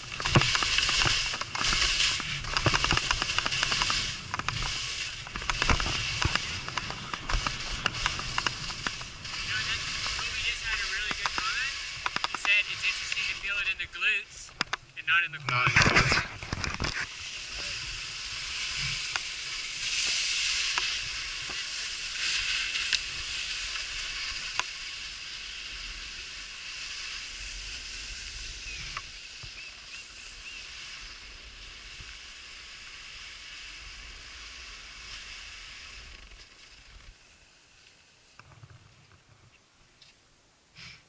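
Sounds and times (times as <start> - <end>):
skis scraping over snow: 0.0 - 39.0.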